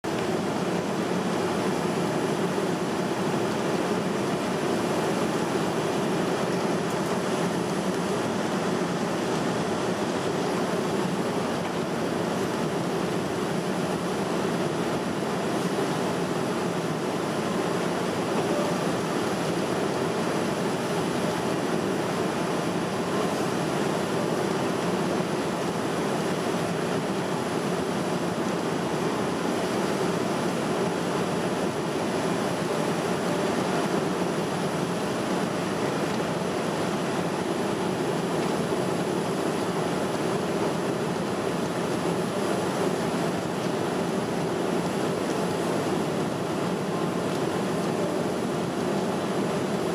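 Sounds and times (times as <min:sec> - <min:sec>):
airplane cabin engine rush: 0:00.0 - 0:49.9.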